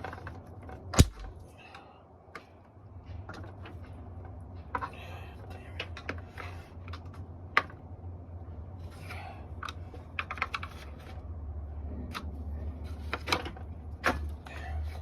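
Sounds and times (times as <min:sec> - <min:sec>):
steady low hum: 0:00.9 - 0:13.0.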